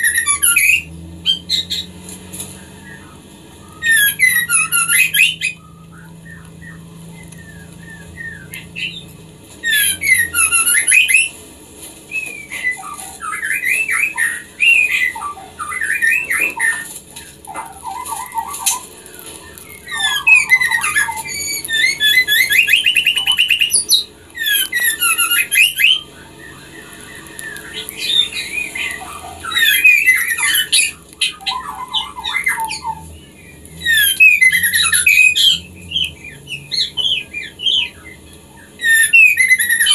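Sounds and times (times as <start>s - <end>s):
bird calling with trills: 0.0s - 11.4s, 12.1s - 39.9s.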